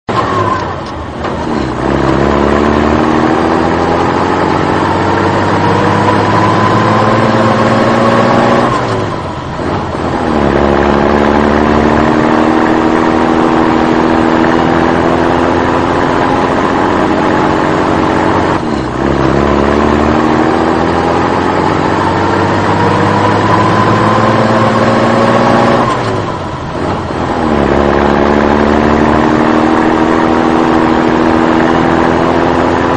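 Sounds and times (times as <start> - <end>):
truck engine revving: 0.1 - 32.9.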